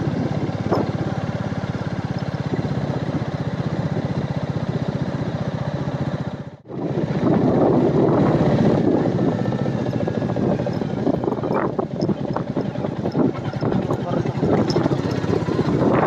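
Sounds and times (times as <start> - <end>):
motorcycle engine running: 0.0 - 16.0
road noise: 0.0 - 16.0
wind: 0.0 - 16.0.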